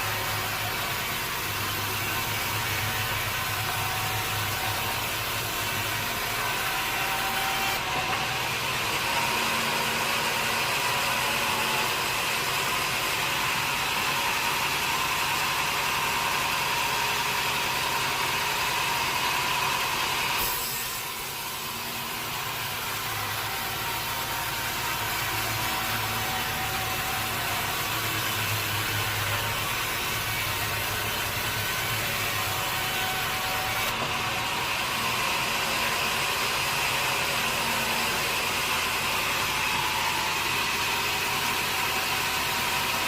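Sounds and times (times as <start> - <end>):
sawmill machine hum: 0.0 - 43.0.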